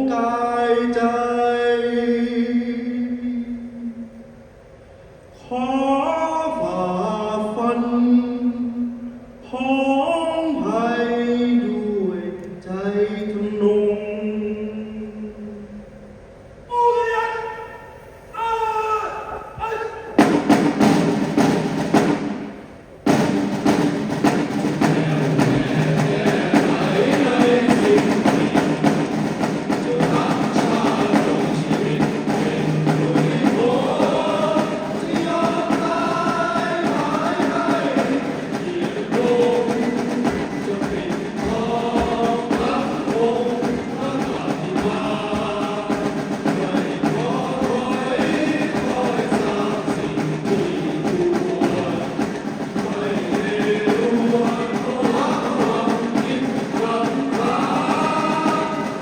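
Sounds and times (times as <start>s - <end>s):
choir singing slow song: 0.0s - 59.0s.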